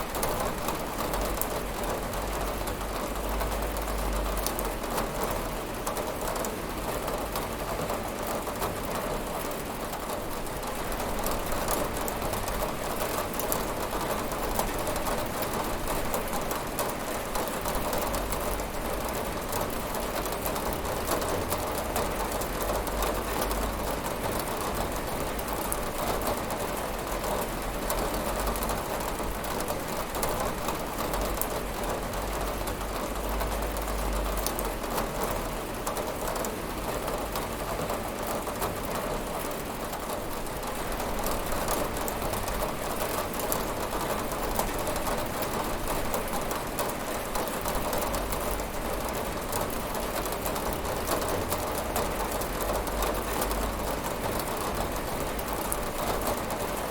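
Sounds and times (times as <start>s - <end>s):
heavy rain on a window: 0.0s - 56.9s.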